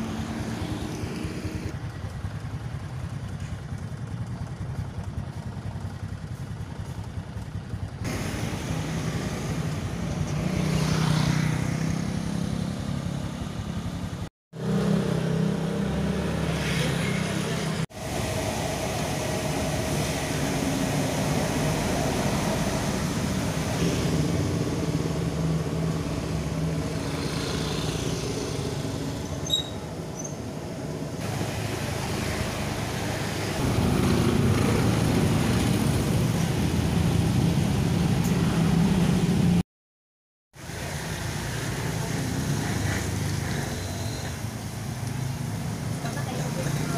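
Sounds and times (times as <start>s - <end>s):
cars passing: 0.0s - 1.8s, 8.0s - 39.6s, 40.6s - 46.9s
motorbikes passing: 0.0s - 39.6s, 40.6s - 46.9s.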